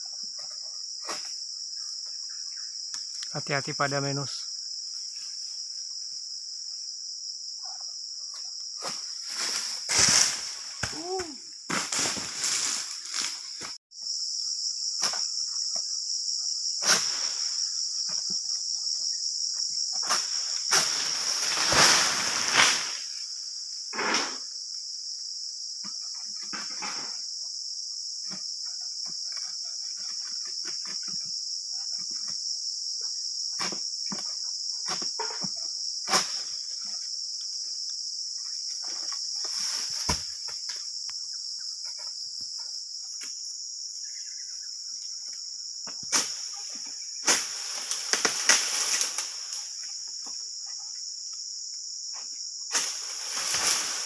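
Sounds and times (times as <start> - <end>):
insects buzzing: 0.0 - 54.0.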